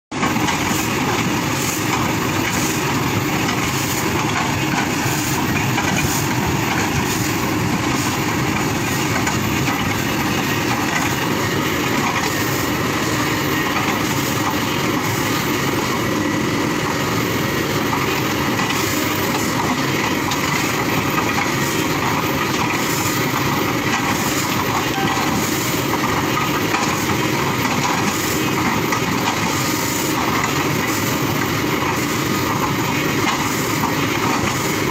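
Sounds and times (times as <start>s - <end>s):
excavator working: 0.1s - 34.9s.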